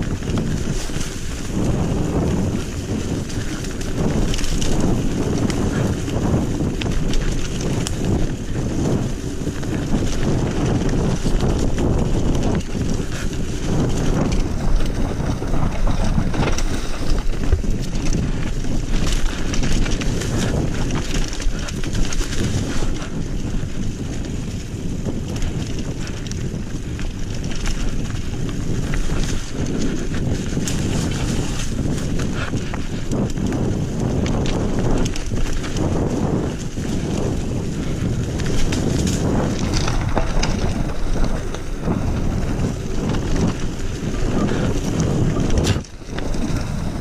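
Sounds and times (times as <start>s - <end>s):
bike rattling clicks and knocks: 0.0s - 47.0s
bike tyre noise on trail: 0.0s - 47.0s
wind buffeting microphone: 0.0s - 47.0s.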